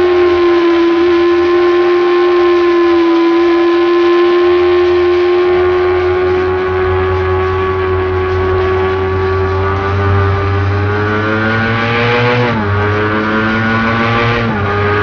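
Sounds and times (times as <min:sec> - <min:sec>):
motorcycle engine at steady revs: 0:00.0 - 0:15.0.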